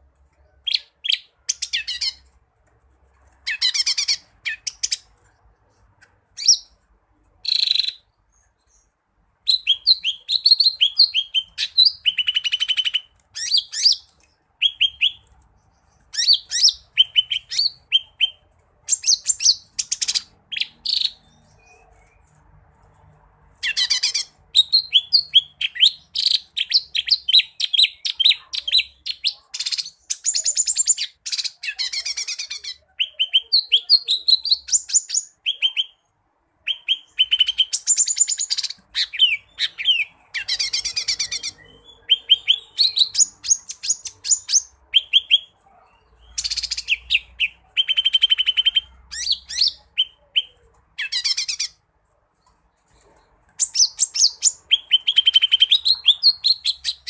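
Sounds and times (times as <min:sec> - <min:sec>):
bird singing fast varied song: 0:06.3 - 0:06.8, 0:07.4 - 0:22.4, 0:23.6 - 0:51.8, 0:53.5 - 0:57.0.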